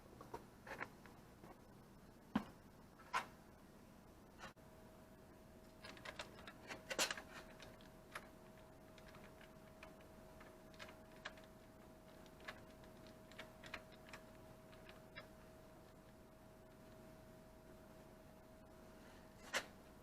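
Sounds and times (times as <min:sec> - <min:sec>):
faint steady tone: 0:00.0 - 0:06.1, 0:07.1 - 0:20.0.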